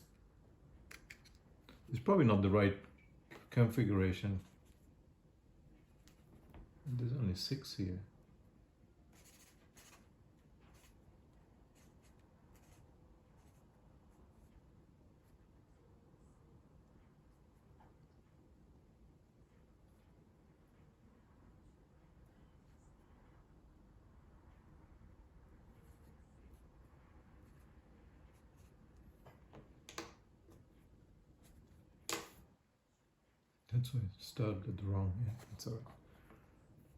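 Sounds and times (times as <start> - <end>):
low room hum: 0.0 - 36.9.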